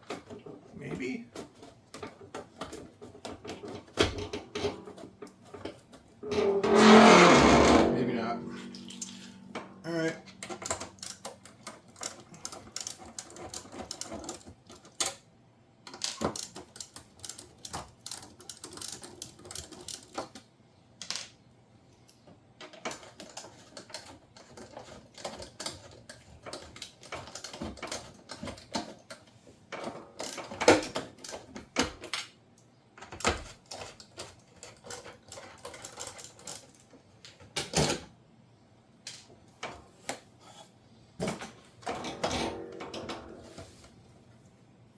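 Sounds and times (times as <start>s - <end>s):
tools clicking and rattling on panels: 0.0s - 15.3s, 15.9s - 21.3s, 22.0s - 38.1s, 41.2s - 43.8s.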